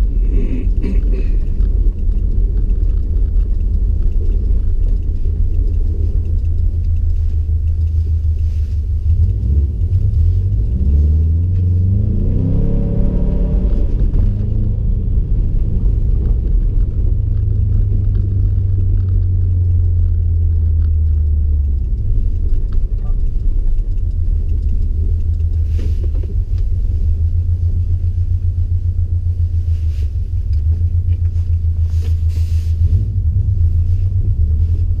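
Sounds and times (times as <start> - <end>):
car engine droning in cabin: 0.0 - 35.0.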